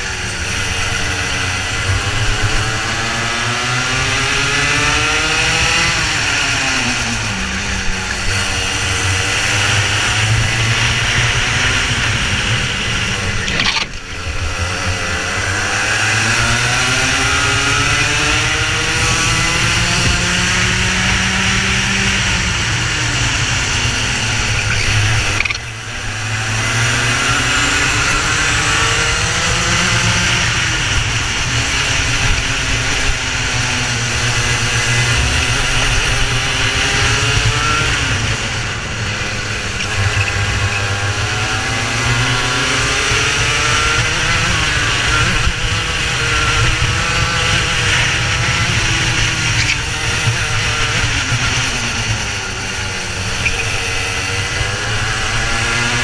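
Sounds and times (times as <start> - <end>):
racing kart engine: 0.0 - 56.0.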